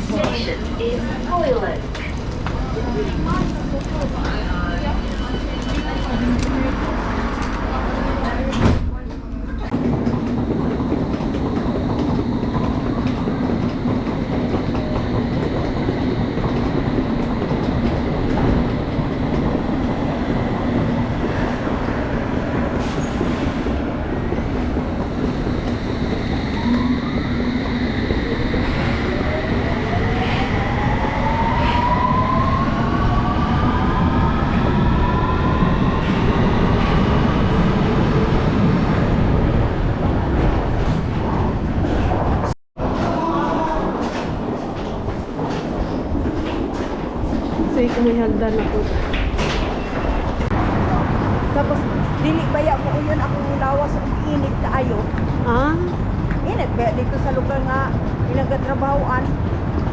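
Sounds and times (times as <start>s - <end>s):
rising train whine: 0.0s - 59.9s
underground train rumbling: 0.0s - 59.9s.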